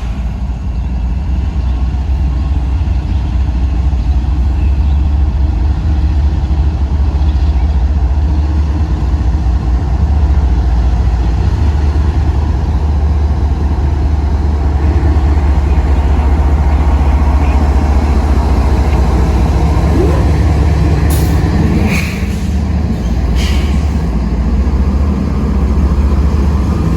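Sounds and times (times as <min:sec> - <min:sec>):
diesel locomotive engine droning: 0:00.0 - 0:26.9.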